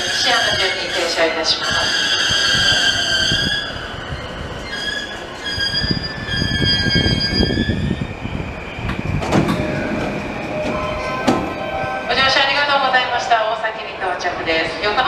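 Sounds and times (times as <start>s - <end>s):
train brakes squealing: 0.0s - 12.3s
low train rumble: 0.0s - 15.0s.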